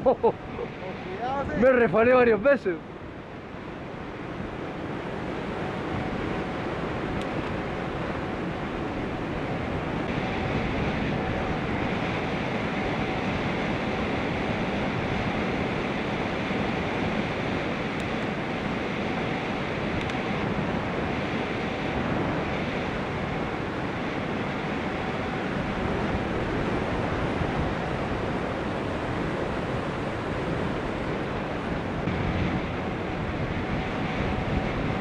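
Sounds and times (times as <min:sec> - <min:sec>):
road rumble: 0:00.0 - 0:35.0
wind rushing over microphone: 0:00.0 - 0:35.0.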